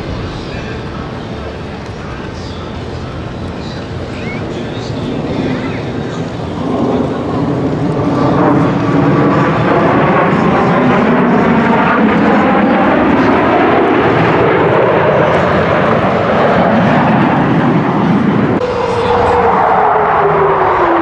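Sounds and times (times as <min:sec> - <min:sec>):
airplane engine roar passing: 0:00.0 - 0:21.0.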